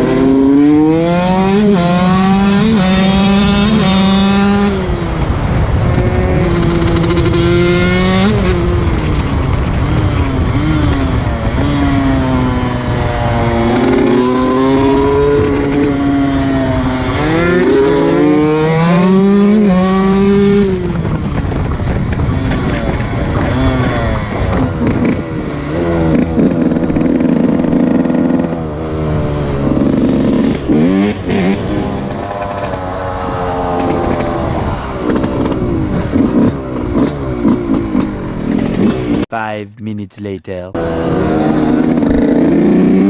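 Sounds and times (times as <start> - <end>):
two-stroke motorcycle engine revving: 0.0 - 5.0, 5.9 - 20.8, 22.6 - 39.2, 40.8 - 43.0.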